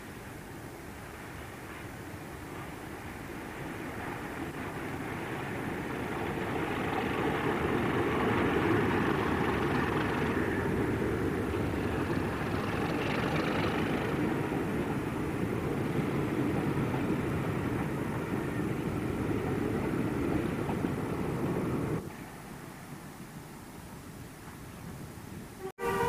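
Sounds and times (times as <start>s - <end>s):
locomotive engine drone: 0.0s - 22.4s, 25.6s - 26.0s
train coaches rumbling on track: 0.0s - 26.0s.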